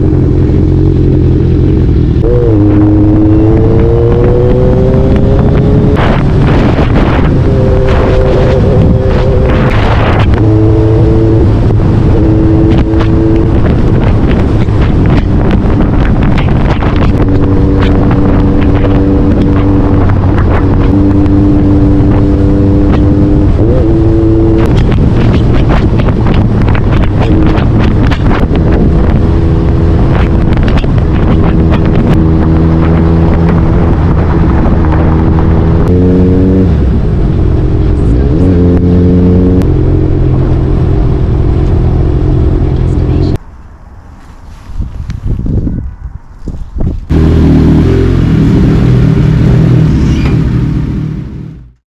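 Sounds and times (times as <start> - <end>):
wind buffeting microphone: 0.0 - 51.4
vehicle engine running: 0.0 - 51.8.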